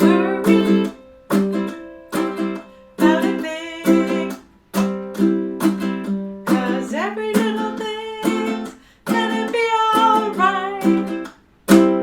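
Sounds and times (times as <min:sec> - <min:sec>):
ukulele strumming chords: 0:00.0 - 0:12.0.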